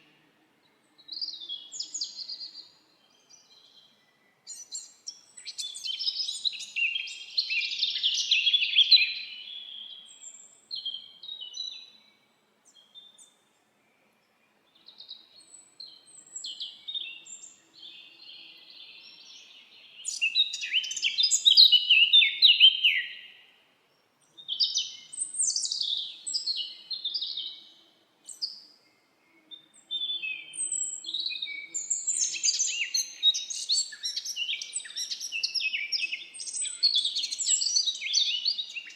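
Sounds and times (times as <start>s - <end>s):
songbirds chirping and warbling: 0.0s - 38.9s.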